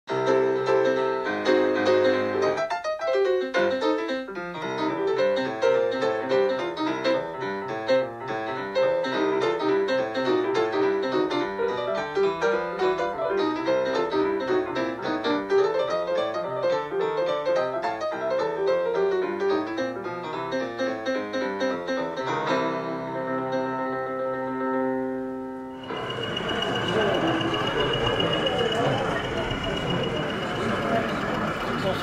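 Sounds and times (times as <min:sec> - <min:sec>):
piano background music: 0:00.1 - 0:32.0.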